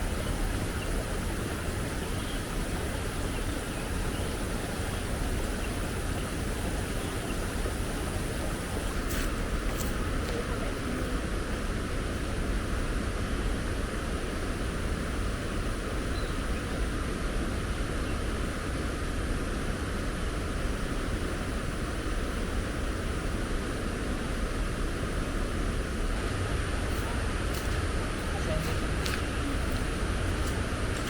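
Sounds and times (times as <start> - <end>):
strong wind blowing: 0.0 - 16.0, 16.6 - 31.0.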